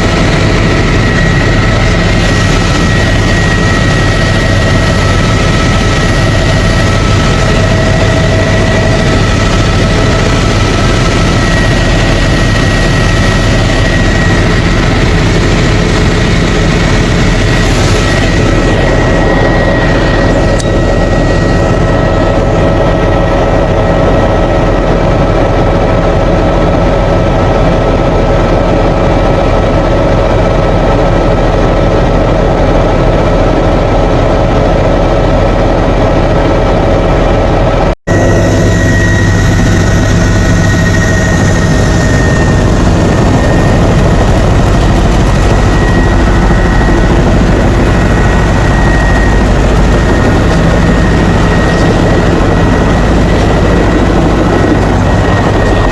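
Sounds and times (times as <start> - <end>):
high whine: 0.0 - 26.1, 36.8 - 55.9
helicopter drone: 0.0 - 55.9.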